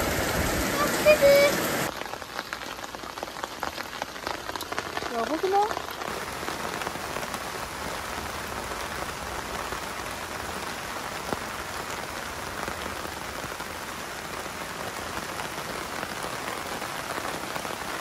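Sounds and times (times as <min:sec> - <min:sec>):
heavy rain on grass and paths: 0:00.0 - 0:18.0.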